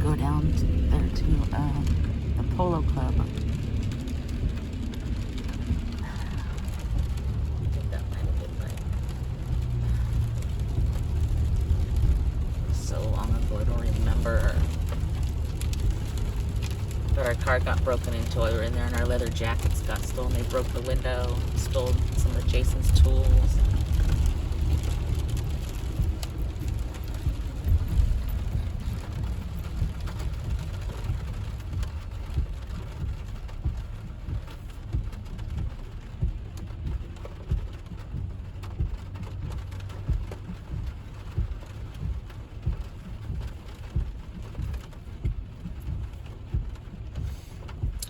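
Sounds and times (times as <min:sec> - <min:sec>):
car rumbling on wet road: 0:00.0 - 0:48.0
rain ticking on car roof: 0:00.0 - 0:48.0.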